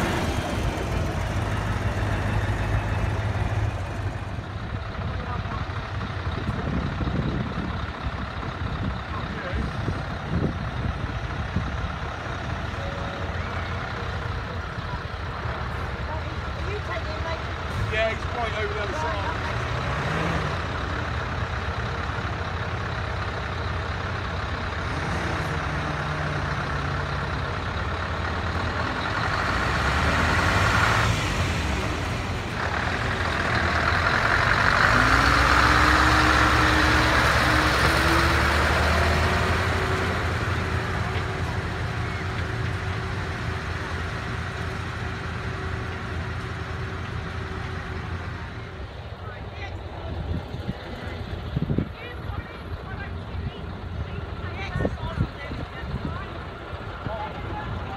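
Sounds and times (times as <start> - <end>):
truck engine passing: 0.0 - 57.9.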